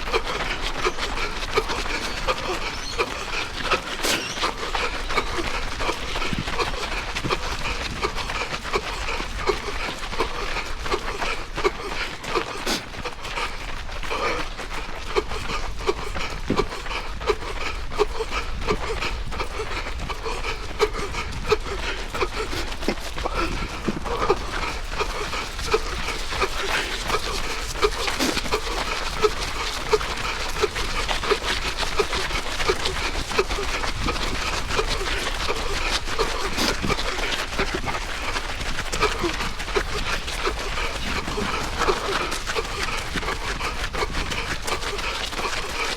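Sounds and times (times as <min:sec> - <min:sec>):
heavy rhythmic panting: 0:00.0 - 0:45.9
heavy wheezing breathing: 0:00.0 - 0:45.9.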